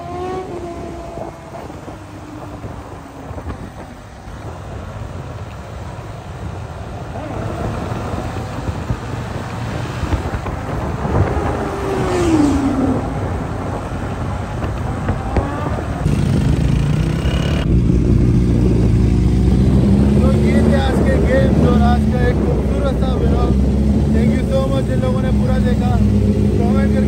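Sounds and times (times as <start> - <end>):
motorcycle engine: 0.0 - 27.0
road noise: 0.0 - 27.0.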